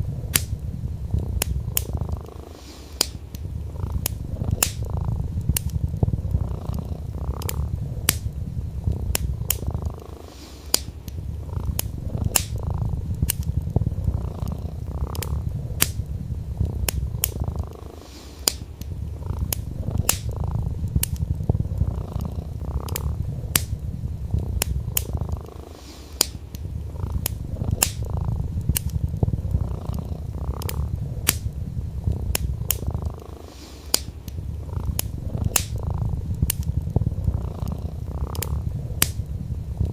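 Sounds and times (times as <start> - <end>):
cat purring: 0.0 - 39.9
wood fire crackling and popping: 0.0 - 39.9.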